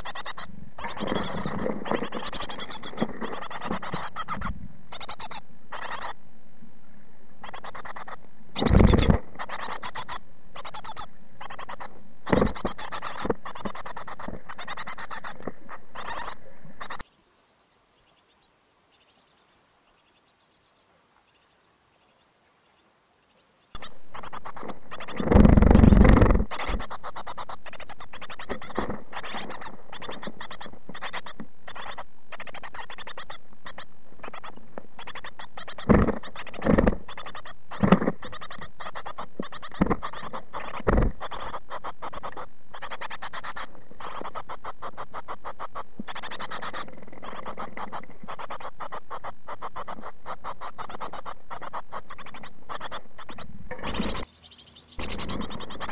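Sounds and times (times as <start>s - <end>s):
nestlings begging chatter: 0.0s - 6.2s, 7.4s - 55.9s.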